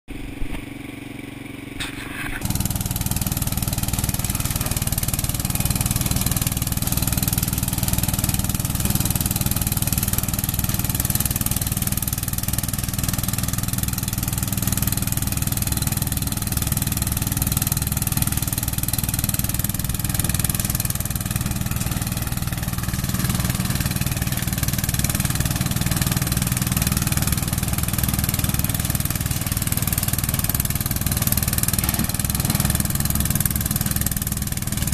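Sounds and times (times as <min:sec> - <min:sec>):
lawn mower engine running: 0:00.1 - 0:34.9
mower shredding brush: 0:00.1 - 0:34.9.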